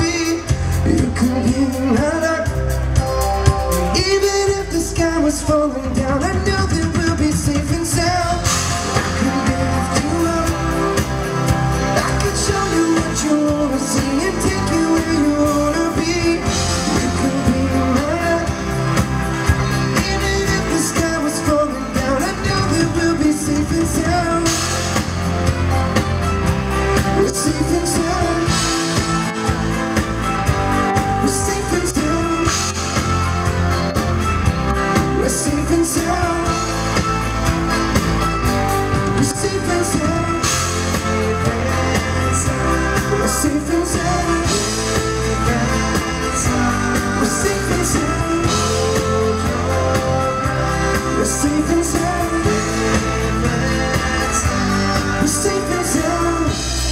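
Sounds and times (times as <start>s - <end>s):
live rock band playing: 0.0s - 56.9s
man singing lead vocals: 0.0s - 56.9s.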